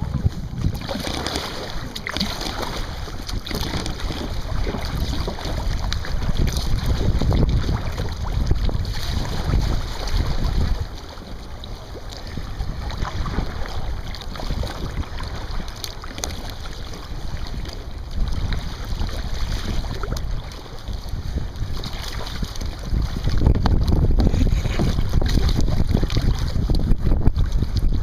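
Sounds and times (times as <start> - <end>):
water lapping around kayak: 0.0 - 28.0
wind buffeting microphone: 0.0 - 28.0.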